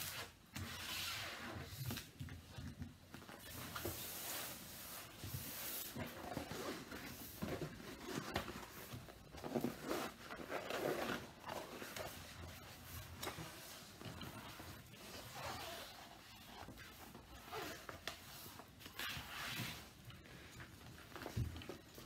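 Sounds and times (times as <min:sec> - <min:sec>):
stiff canvas rustling and crinkling: 0:00.0 - 0:22.0.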